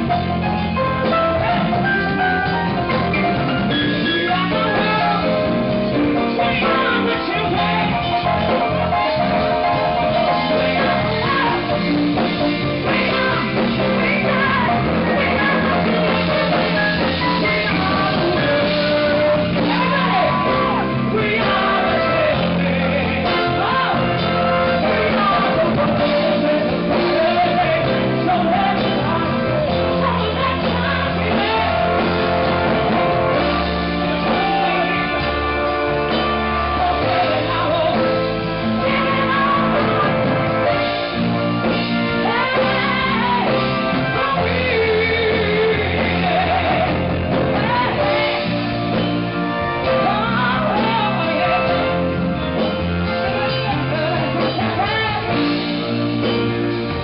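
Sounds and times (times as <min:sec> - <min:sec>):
live band playing: 0:00.0 - 0:57.0
singing voice: 0:00.0 - 0:57.0.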